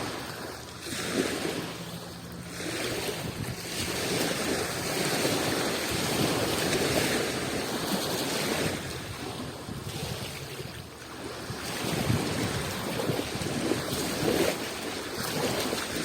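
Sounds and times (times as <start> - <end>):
waves washing onto shore: 0.0 - 16.0.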